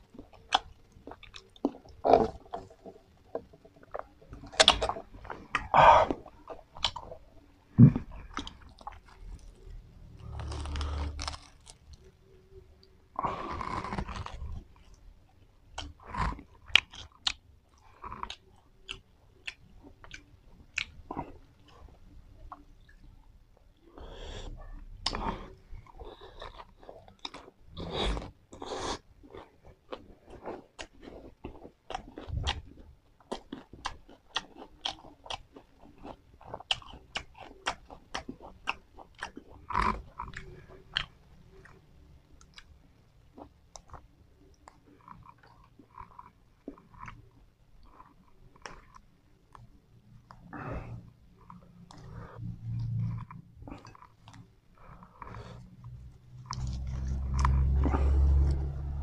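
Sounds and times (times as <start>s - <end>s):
chewing crisp lettuce: 0.0s - 12.3s, 13.2s - 15.0s, 24.6s - 59.0s.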